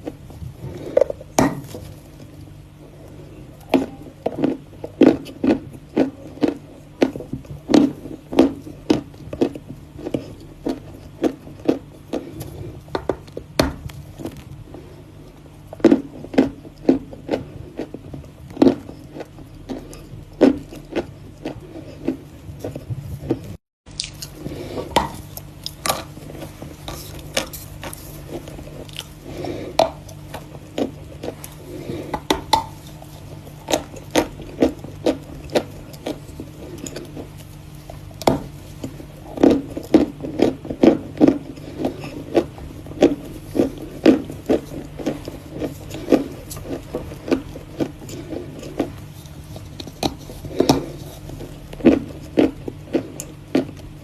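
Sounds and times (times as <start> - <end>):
chalk crunching when chewed: 3.8 - 53.9.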